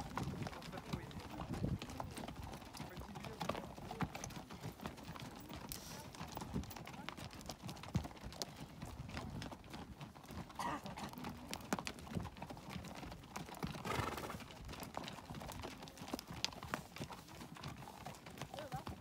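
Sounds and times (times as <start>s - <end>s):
mule hooves clip-clopping on dirt: 0.0s - 19.0s.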